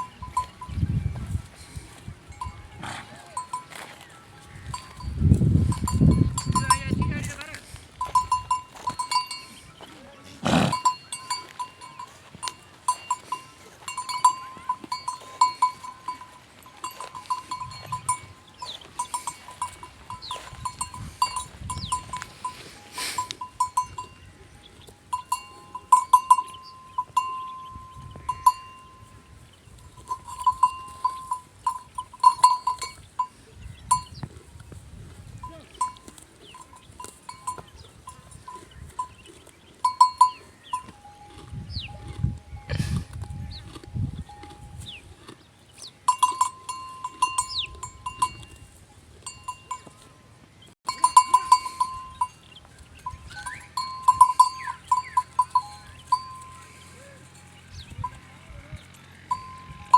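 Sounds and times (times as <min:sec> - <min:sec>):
livestock bell clinking: 0:00.0 - 0:59.9.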